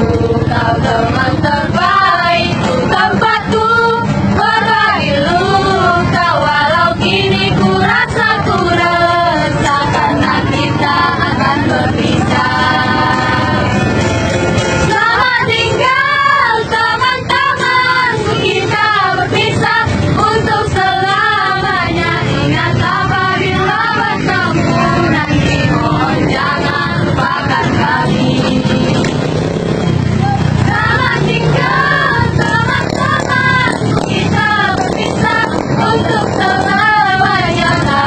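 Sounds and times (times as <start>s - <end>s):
young female voices singing: 0.0s - 14.0s, 14.8s - 29.3s, 30.0s - 38.0s
instrumental accompaniment: 0.0s - 38.0s.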